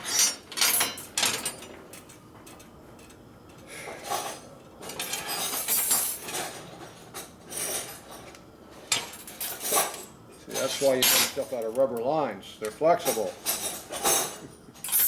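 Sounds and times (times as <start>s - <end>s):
metal tools clinking and scraping: 0.0s - 3.2s, 3.8s - 8.3s, 8.9s - 12.2s, 13.0s - 15.0s.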